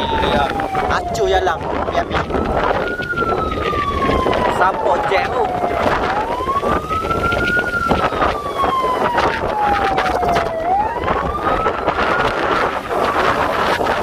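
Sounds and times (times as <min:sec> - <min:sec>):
siren wailing: 0:00.0 - 0:14.0
storm wind rushing: 0:00.0 - 0:14.0.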